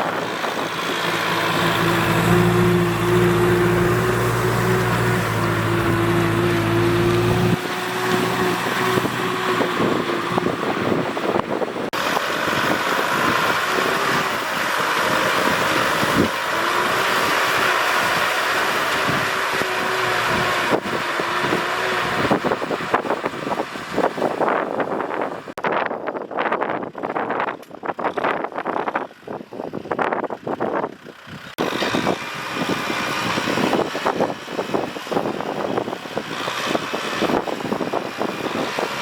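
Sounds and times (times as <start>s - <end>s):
engine rattling: 0.0s - 25.6s, 26.7s - 39.0s
tractor engine running: 0.0s - 25.6s, 26.7s - 39.0s.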